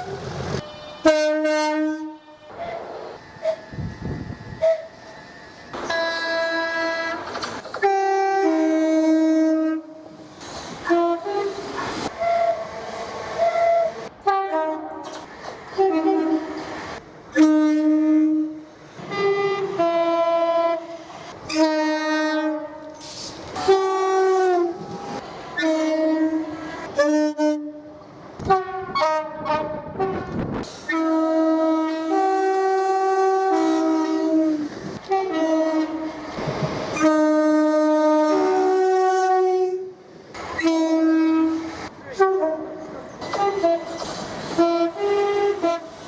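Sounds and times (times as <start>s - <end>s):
train two-tone horn blasts: 0.0s - 10.2s, 10.8s - 46.0s.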